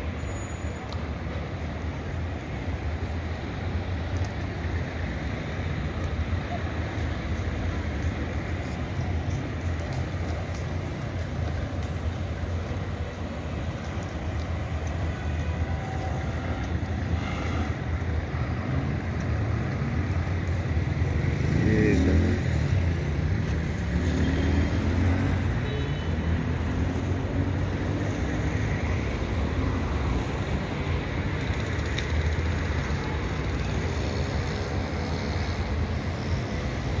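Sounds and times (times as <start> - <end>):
city street traffic: 0.0 - 37.0.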